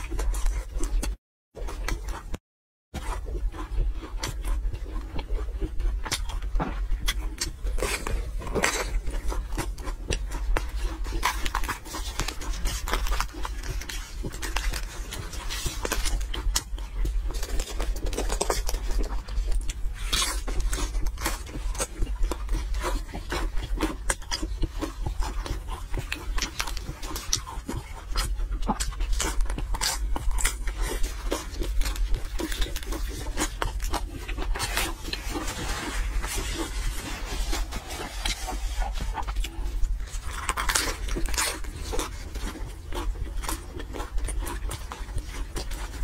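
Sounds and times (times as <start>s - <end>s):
crunching and chewing pastry: 0.0s - 46.0s.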